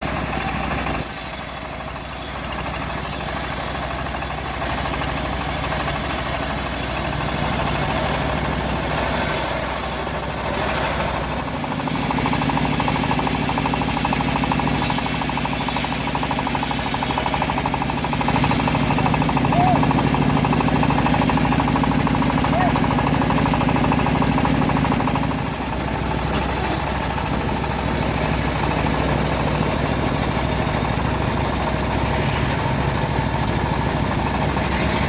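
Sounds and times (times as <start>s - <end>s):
bandsaw mill running: 0.0s - 35.0s.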